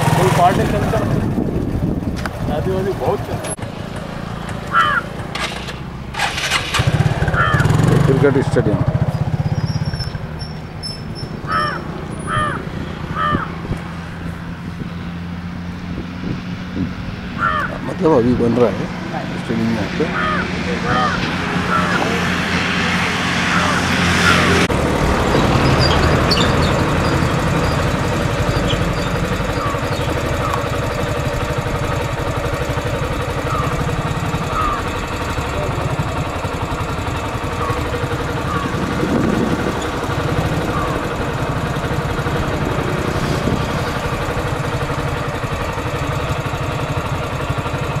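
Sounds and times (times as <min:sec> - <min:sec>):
road and wind noise: 0:00.0 - 0:48.0
vehicle engine running: 0:00.0 - 0:48.0.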